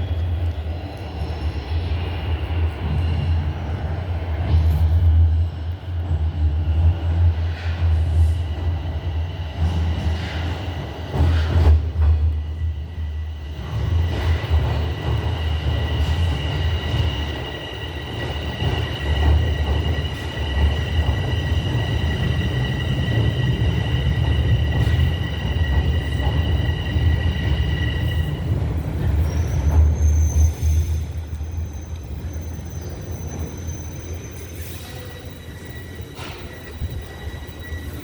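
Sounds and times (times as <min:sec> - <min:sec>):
subway train deep rumble: 0:00.0 - 0:38.0.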